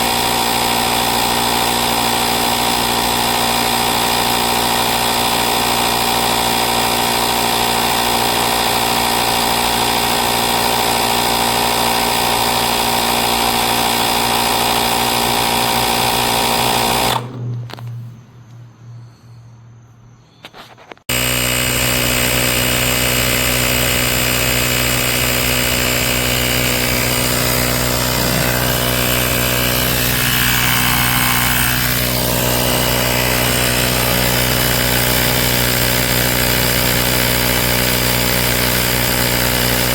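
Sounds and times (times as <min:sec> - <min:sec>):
electric air compressor running: 0:00.0 - 0:17.4, 0:21.1 - 0:39.9.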